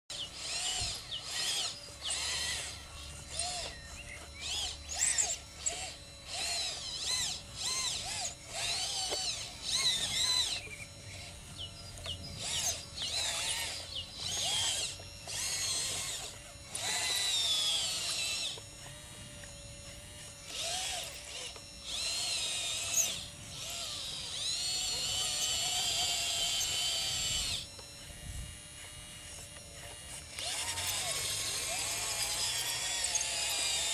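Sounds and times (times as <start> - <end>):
model loader motors whining: 0.1 - 33.9.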